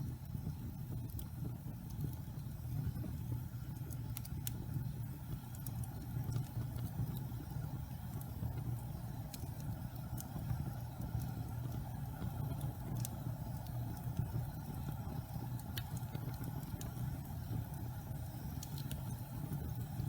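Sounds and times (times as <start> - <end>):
low rumble of flames: 0.0 - 20.0
wood crackling and popping: 0.0 - 20.0.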